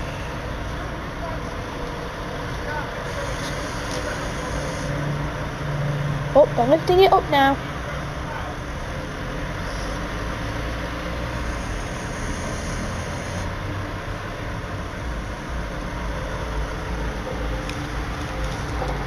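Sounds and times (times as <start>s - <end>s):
tow truck engine rumbling: 0.0s - 19.0s.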